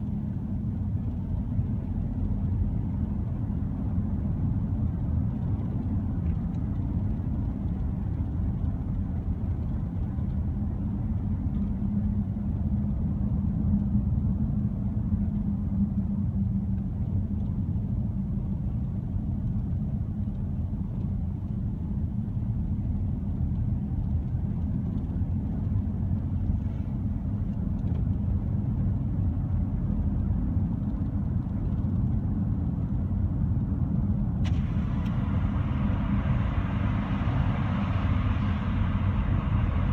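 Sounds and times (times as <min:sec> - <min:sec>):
car cabin rumble: 0:00.0 - 0:39.9.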